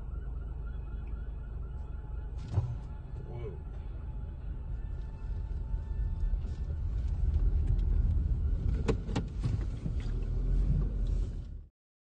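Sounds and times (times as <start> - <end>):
low vehicle rumble: 0.0 - 11.7.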